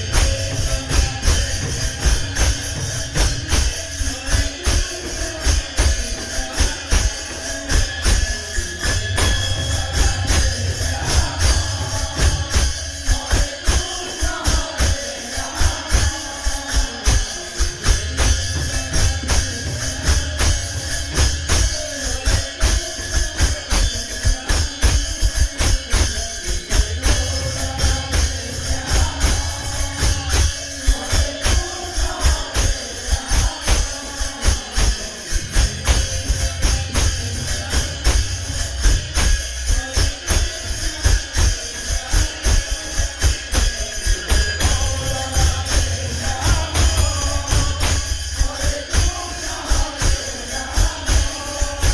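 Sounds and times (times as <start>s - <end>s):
drum beats: 0.0s - 51.9s
jingling metal percussion: 0.0s - 51.9s.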